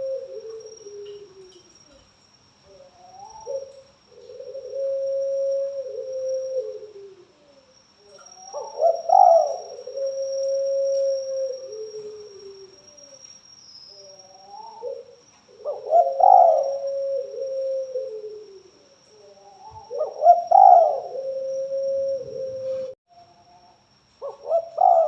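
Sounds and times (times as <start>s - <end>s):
dove cooing: 0.0s - 2.1s, 2.7s - 13.2s, 14.0s - 23.0s, 24.2s - 25.0s.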